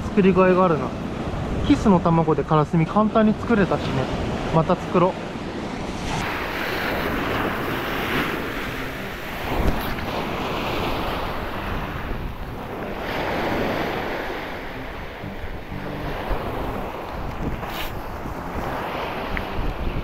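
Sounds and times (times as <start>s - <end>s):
surf washing on beach: 0.0s - 20.0s
wind buffeting microphone: 4.0s - 20.0s.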